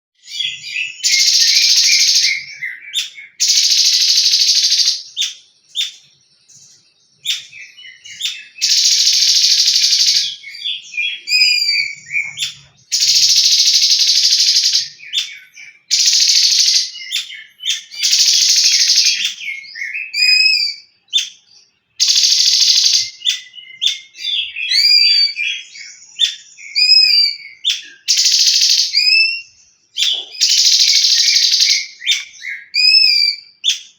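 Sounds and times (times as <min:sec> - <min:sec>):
songbird rattling song: 0:00.2 - 0:33.9.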